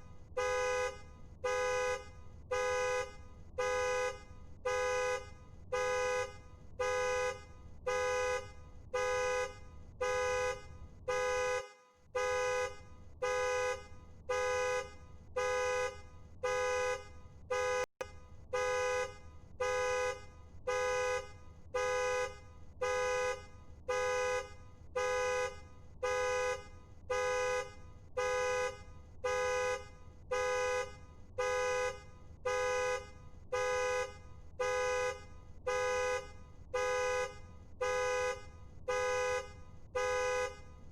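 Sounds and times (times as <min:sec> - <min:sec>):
car alarm horn honks: 0:00.4 - 0:40.9.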